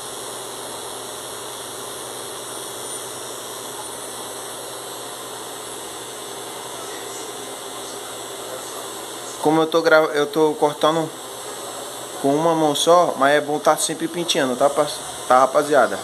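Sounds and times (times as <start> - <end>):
hair clipper buzzing: 0.0 - 16.0.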